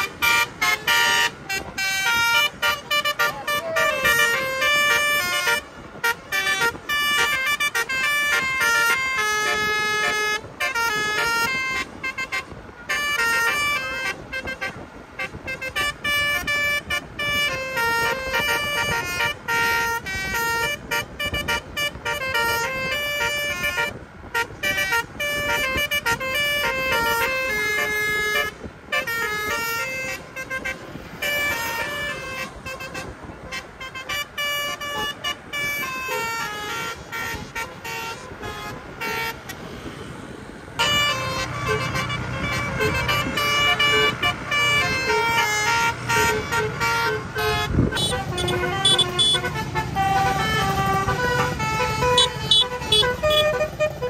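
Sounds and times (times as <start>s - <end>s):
musical bus horns playing runs: 0.0s - 54.0s.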